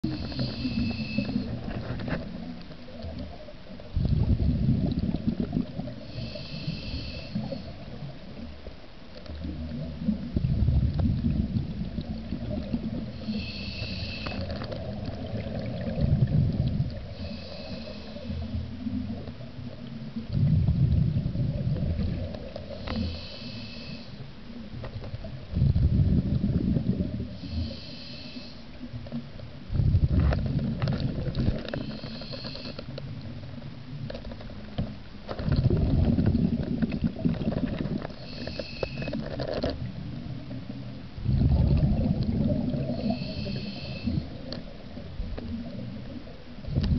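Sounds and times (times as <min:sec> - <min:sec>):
exhaled bubbles rumbling: 0:00.0 - 0:23.3, 0:24.5 - 0:27.6, 0:28.8 - 0:46.9.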